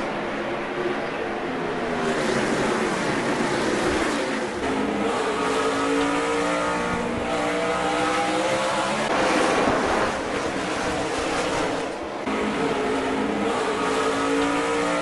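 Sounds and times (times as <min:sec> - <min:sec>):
racing car engines at speed: 0:00.0 - 0:15.0.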